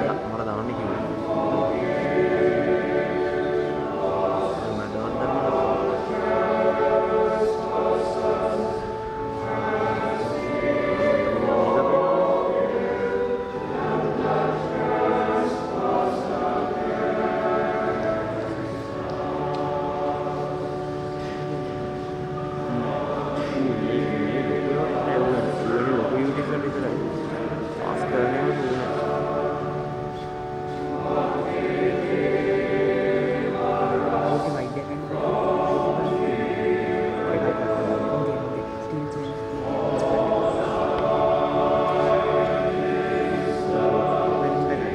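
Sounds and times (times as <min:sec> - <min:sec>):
choir singing held notes: 0:00.0 - 0:44.9.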